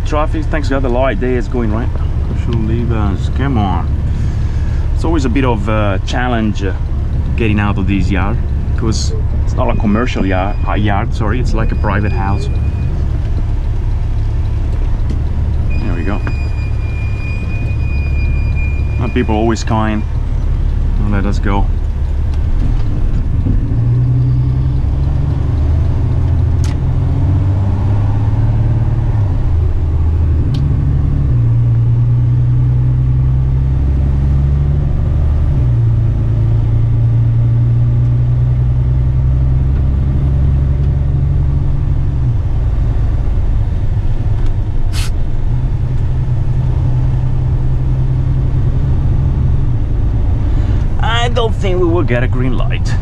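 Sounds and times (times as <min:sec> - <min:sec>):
diesel truck engine drone: 0:00.0 - 0:53.0.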